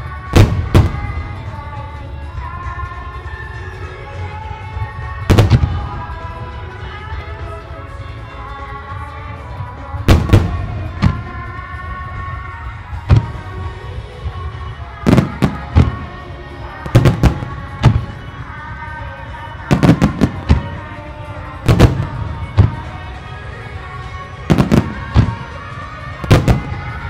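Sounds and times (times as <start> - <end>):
music playing: 0.0 - 27.0.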